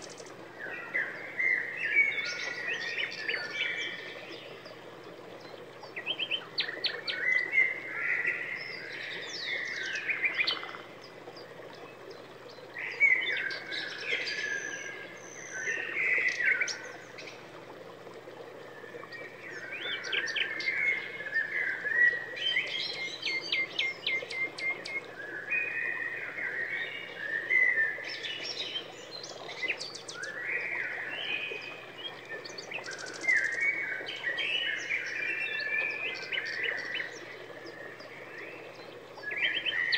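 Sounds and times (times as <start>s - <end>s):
songbird singing: 0.0s - 17.5s, 18.4s - 39.9s.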